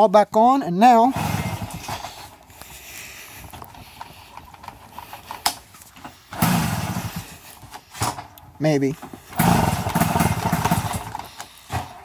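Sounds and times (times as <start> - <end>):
moped engine turning over: 1.0 - 12.0.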